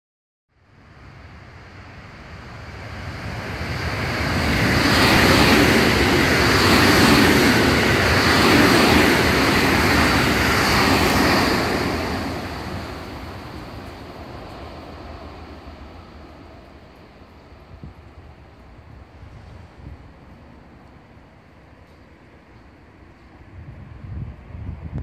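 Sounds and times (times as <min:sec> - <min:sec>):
electric train passing: 0:00.6 - 0:25.0.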